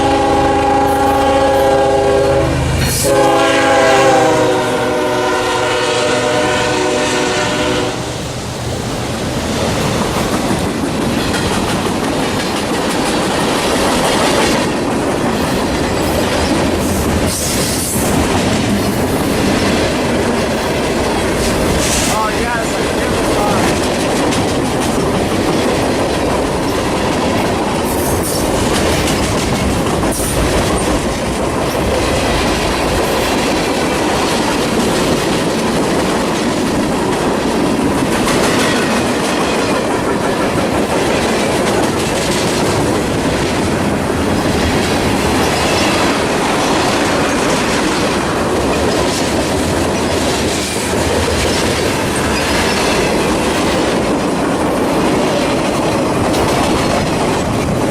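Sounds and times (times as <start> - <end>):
freight train rumbling past: 0.0 - 57.9
wheels clacking over rail joints: 9.4 - 57.9.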